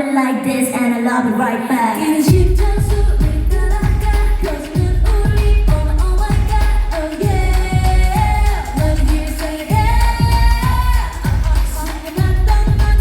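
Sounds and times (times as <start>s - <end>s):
women singing: 0.0s - 13.0s
electronic bass-drum beat: 2.3s - 13.0s.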